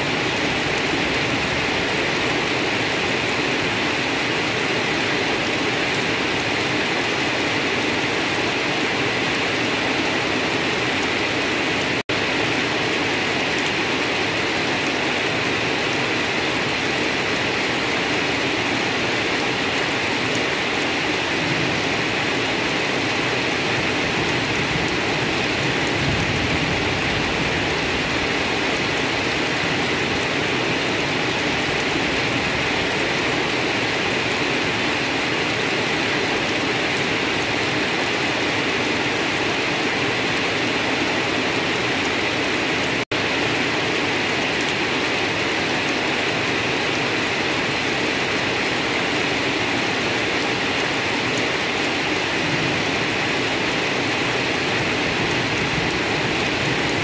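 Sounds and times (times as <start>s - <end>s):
rain falling on grass: 0.0s - 57.0s.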